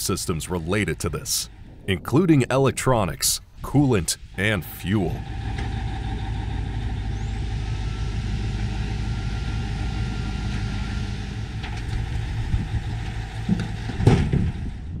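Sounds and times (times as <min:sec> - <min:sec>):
faint high whine: 0:00.0 - 0:12.9
truck diesel engine running: 0:00.0 - 0:15.0.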